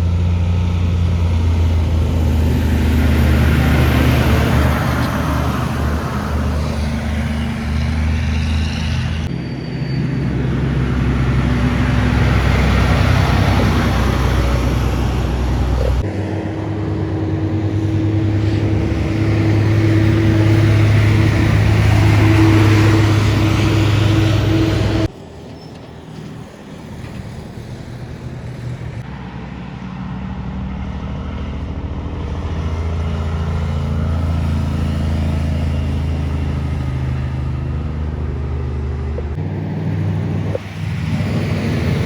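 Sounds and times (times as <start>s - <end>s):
heavy trucks passing: 0.0s - 42.0s.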